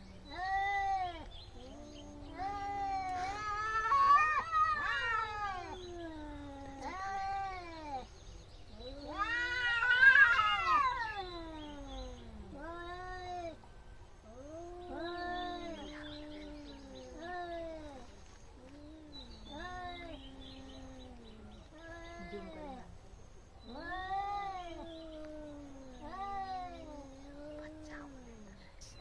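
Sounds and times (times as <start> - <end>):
cats yowling: 0.3 - 8.1, 8.7 - 13.6, 14.3 - 22.9, 23.6 - 28.5.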